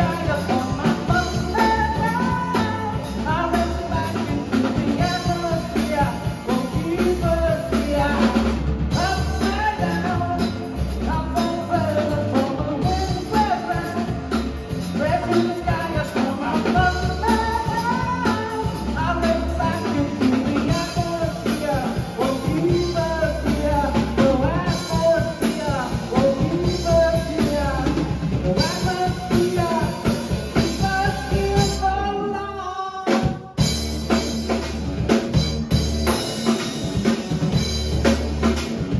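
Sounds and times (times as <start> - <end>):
man singing: 0.0 - 33.8
live rock band playing: 0.0 - 38.9.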